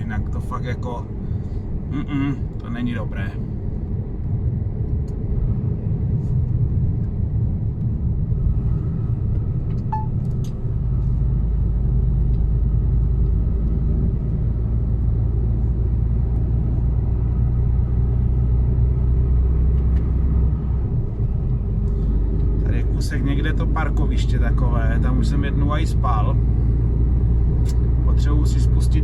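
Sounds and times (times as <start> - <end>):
road rumble: 0.0 - 29.0
truck diesel engine drone: 0.0 - 29.0.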